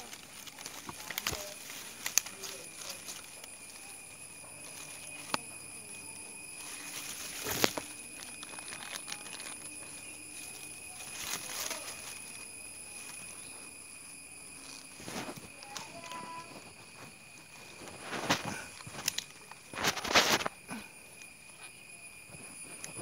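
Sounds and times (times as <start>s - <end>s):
palm fronds rustling: 0.0s - 23.0s.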